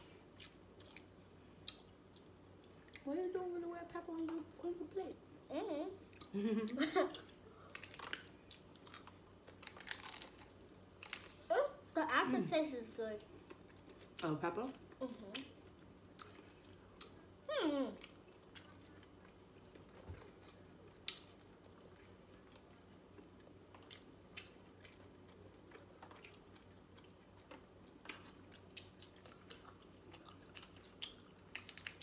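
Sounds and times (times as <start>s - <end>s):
chewing crisp taco shells: 0.0s - 3.1s, 7.3s - 11.8s, 13.2s - 32.0s.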